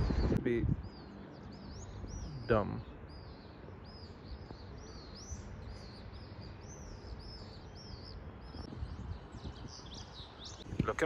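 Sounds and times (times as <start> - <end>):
city background hum: 0.0 - 11.0
small birds chirping: 0.0 - 11.0.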